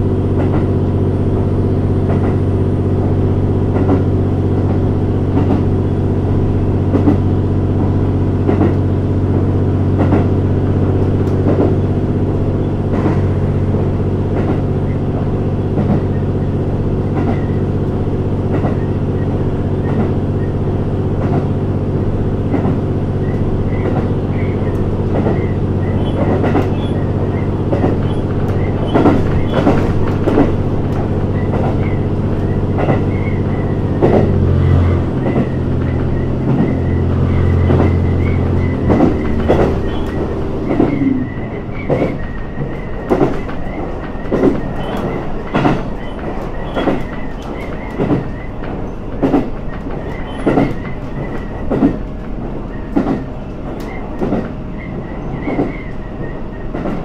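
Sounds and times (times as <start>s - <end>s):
diesel engine drone: 0.0s - 47.4s
wheels clicking over rail joints: 2.0s - 2.5s, 3.6s - 57.0s.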